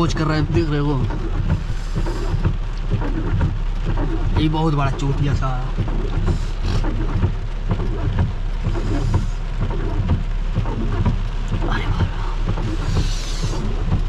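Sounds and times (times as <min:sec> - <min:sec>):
heavy rain pouring: 0:00.0 - 0:14.0
low rumble: 0:00.0 - 0:14.0.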